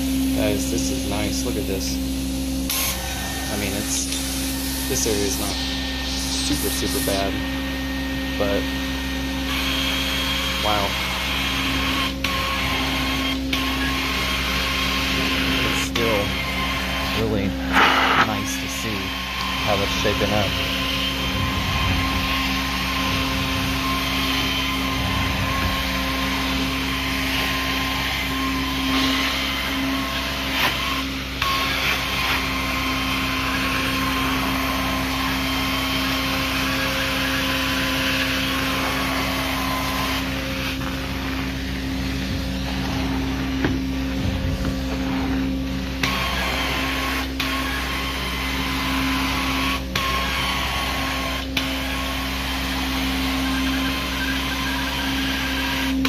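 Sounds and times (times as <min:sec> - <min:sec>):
carpet extraction machine suction hum: 0:00.0 - 0:56.0
vacuum equipment droning: 0:00.0 - 0:56.0.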